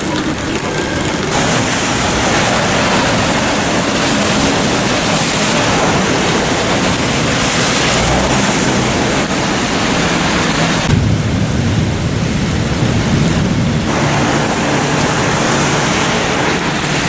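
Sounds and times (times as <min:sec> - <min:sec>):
heavy rain: 0:00.0 - 0:17.0
tyres hissing through water: 0:00.0 - 0:17.0
low rumble: 0:00.2 - 0:17.0.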